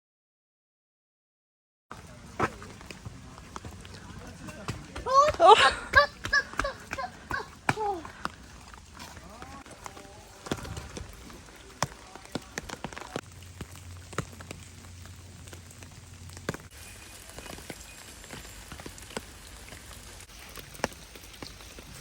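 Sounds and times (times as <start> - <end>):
rain falling: 1.9 - 22.0.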